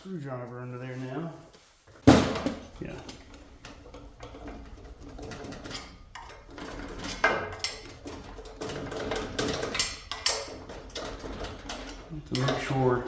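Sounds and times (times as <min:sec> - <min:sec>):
metal parts and tools clinking: 0:02.0 - 0:13.0.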